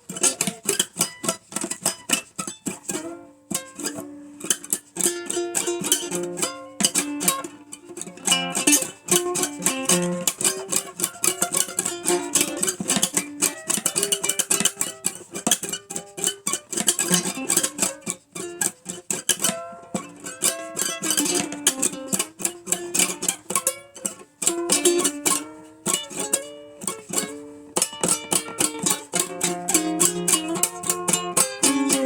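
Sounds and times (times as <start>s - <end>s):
acoustic plucked-string blues tune: 0.0s - 32.0s.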